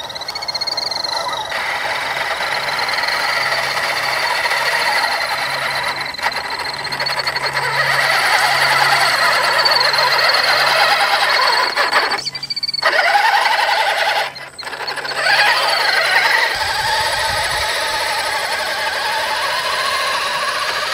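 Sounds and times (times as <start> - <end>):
toy truck motor whining: 0.0 - 20.9.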